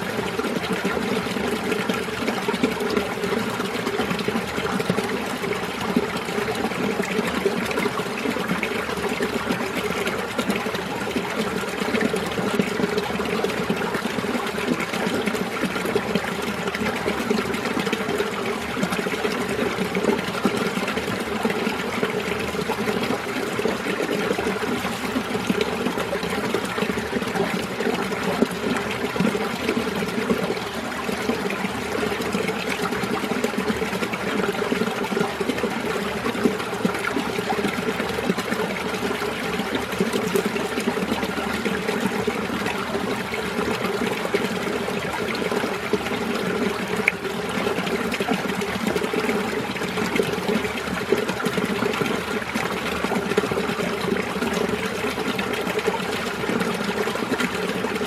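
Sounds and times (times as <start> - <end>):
stream gurgling: 0.0 - 58.0.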